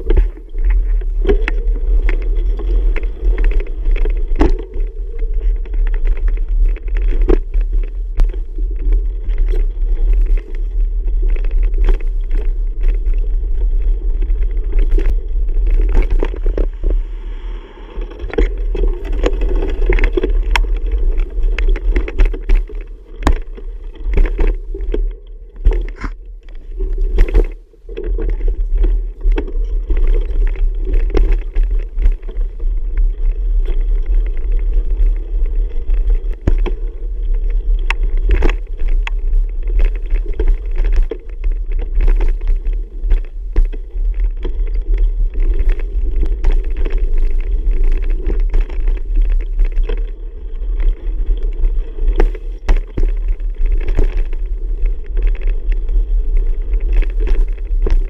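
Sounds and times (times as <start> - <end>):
bicycle knocks and rattles: 0.0 - 13.6, 18.3 - 50.2, 50.8 - 58.0.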